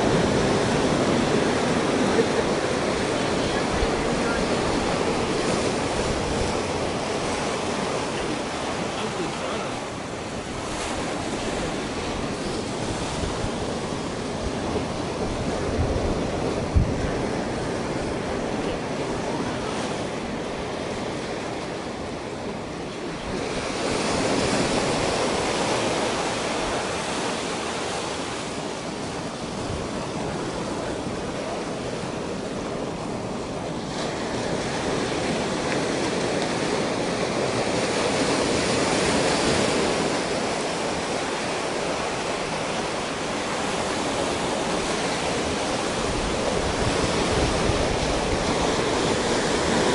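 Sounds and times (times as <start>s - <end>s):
wind rumble on microphone: 0.0s - 9.3s, 10.0s - 49.9s
waves breaking on rocky beach: 0.0s - 49.9s.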